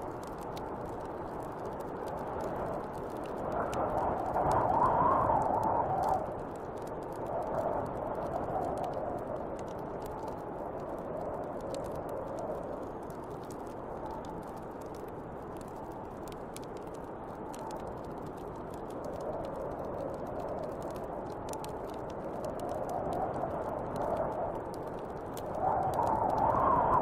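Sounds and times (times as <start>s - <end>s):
wood fire crackling: 0.0s - 27.0s
wind whistling: 1.0s - 15.0s, 19.0s - 27.0s.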